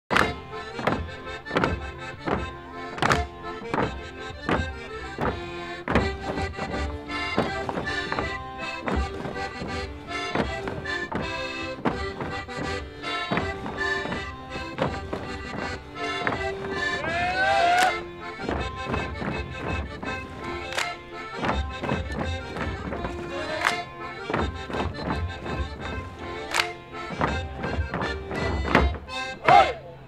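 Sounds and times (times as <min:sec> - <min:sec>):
clogs knocking on wooden floor: 0:00.1 - 0:17.2, 0:17.8 - 0:29.2
folk dance music with reeds: 0:00.1 - 0:30.0.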